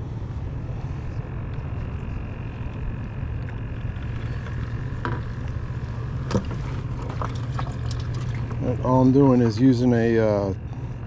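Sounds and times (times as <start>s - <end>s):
boat motor running: 0.0s - 11.0s
faint thin whine: 0.0s - 11.0s.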